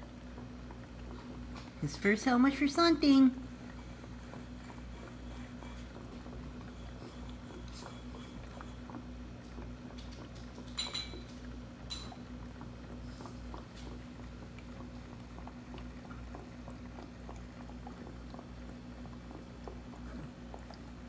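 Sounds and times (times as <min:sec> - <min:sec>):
aquarium water bubbling: 0:00.0 - 0:21.0
pump low hum: 0:00.0 - 0:21.0.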